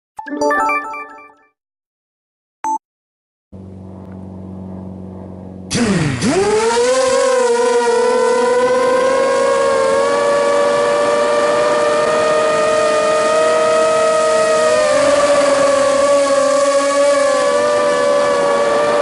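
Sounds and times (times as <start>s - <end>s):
drone motors whining: 3.6s - 19.0s.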